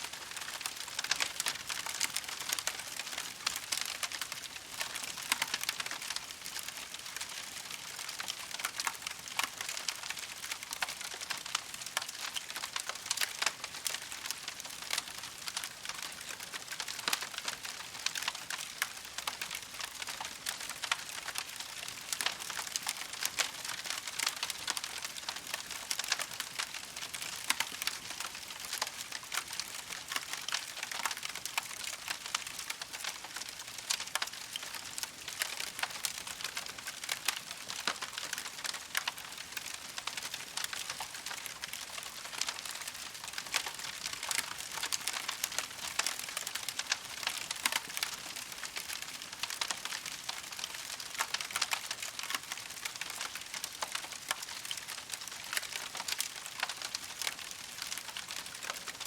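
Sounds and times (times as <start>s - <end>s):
campfire crackling and popping: 0.1s - 59.0s.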